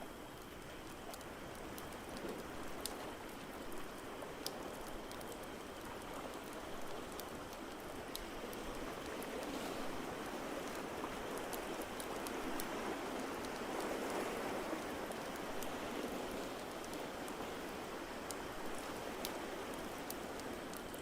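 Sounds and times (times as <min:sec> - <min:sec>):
wood fire crackling: 0:00.3 - 0:21.0.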